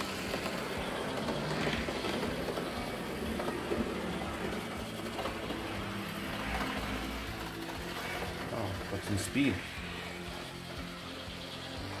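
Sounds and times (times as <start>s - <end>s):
model locomotive motor humming: 0.0s - 12.0s.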